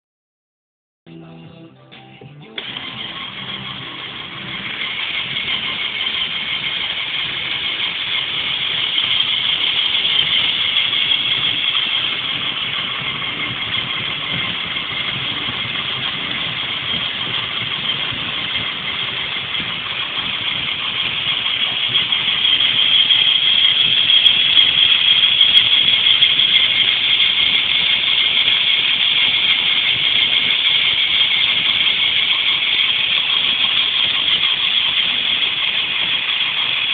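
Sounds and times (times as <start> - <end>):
electric motors whirring: 2.6 - 36.9.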